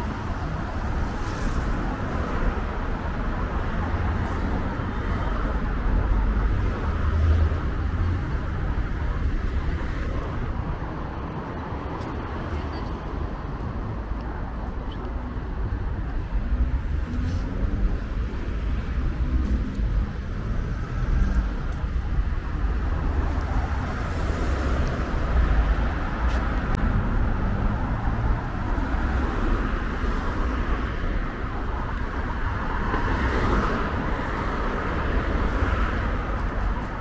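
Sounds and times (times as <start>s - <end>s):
deep traffic rumble: 0.0s - 37.0s
vehicles driving past: 0.0s - 37.0s.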